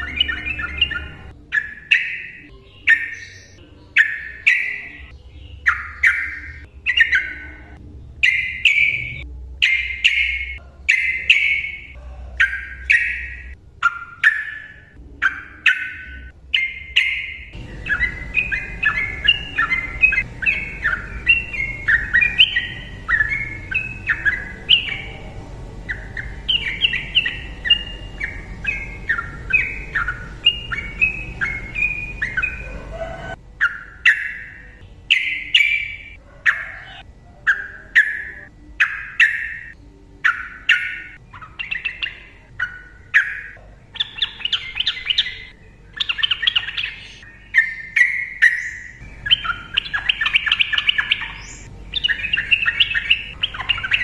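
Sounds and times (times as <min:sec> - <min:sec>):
bulbul singing chattering phrases: 0:00.0 - 0:54.0
low hum: 0:00.0 - 0:54.0.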